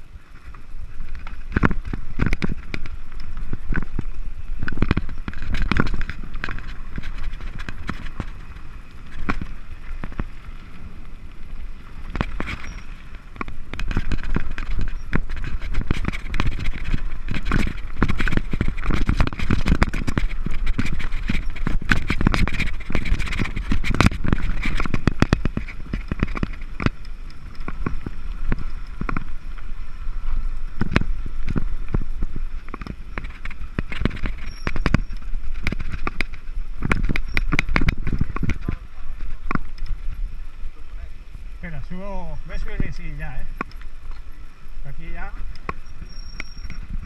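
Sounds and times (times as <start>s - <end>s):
bike knocking and rattling: 0.0s - 47.0s
wind rumble on microphone: 0.0s - 47.0s
tyres crunching over stones: 0.3s - 47.0s.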